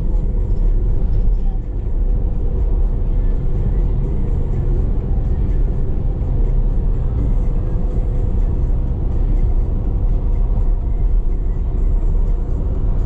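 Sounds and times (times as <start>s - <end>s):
car interior road and engine rumble: 0.0s - 13.0s.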